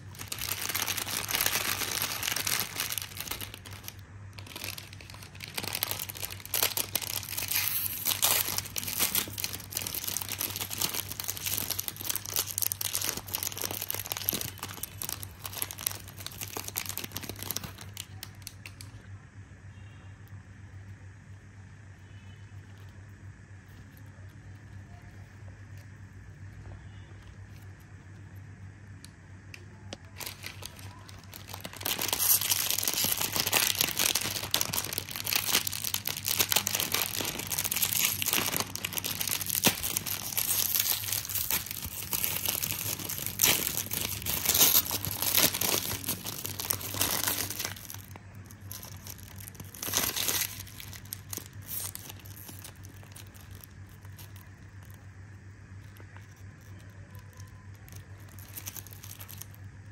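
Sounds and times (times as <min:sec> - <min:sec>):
plastic wrapper crinkling: 0:00.0 - 0:19.0, 0:22.6 - 0:59.9
plastic wrapper tearing: 0:00.0 - 0:19.0, 0:28.9 - 0:59.9.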